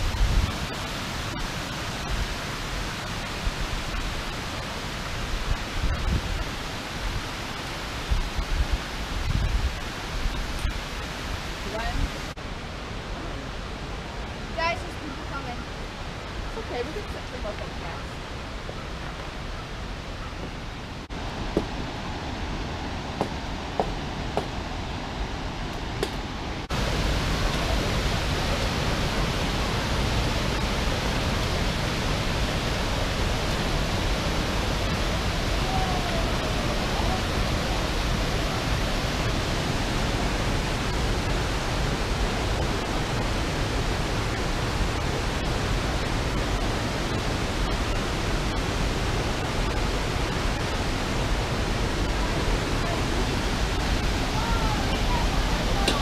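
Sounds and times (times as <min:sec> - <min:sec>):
water rushing through a gorge: 0:00.0 - 0:20.0, 0:20.6 - 0:56.0.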